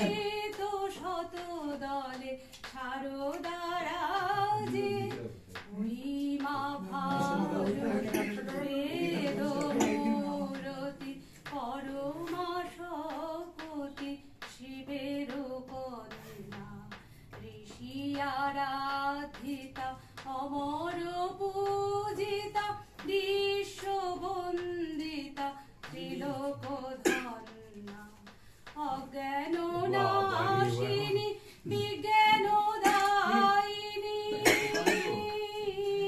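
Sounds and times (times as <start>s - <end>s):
woman singing unaccompanied: 0.0s - 36.0s.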